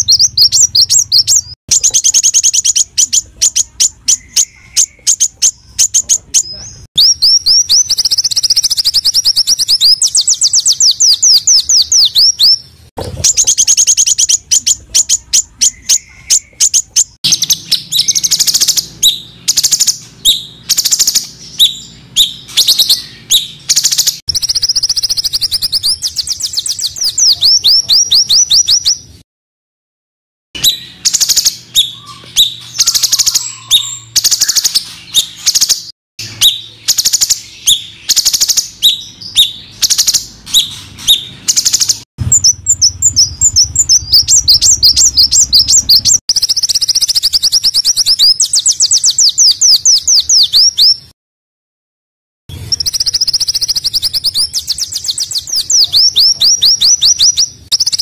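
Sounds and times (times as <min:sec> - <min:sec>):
songbirds giving harsh rapid trills: 0:00.0 - 0:29.2, 0:30.6 - 0:51.1, 0:52.5 - 0:58.0.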